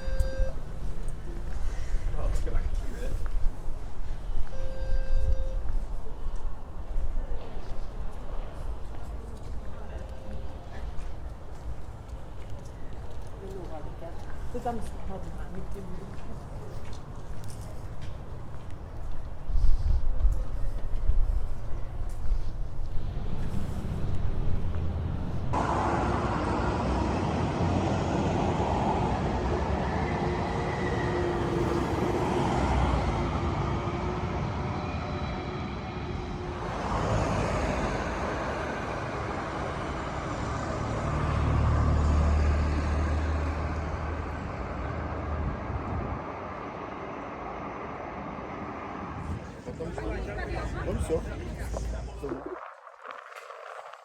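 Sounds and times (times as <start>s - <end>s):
vehicles passing: 5.7s - 52.7s.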